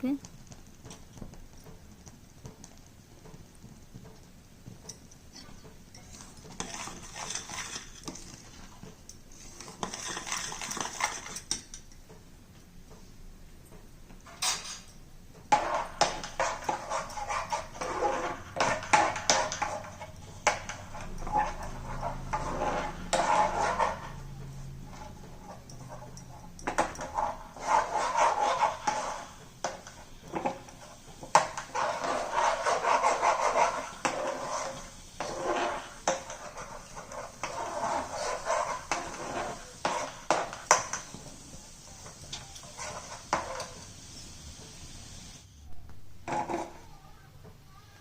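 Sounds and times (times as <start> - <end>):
spoon stirring in a pan: 0.1 - 45.3, 45.9 - 46.9.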